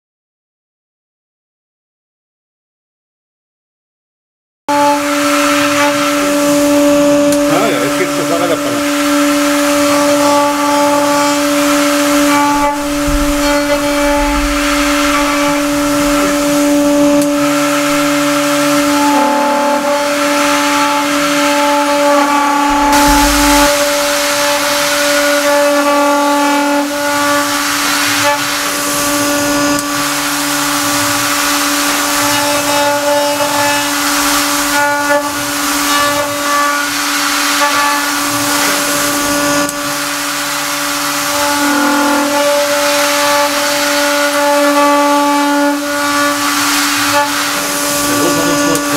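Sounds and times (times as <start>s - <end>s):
milling spindle cutting metal: 4.7s - 48.9s.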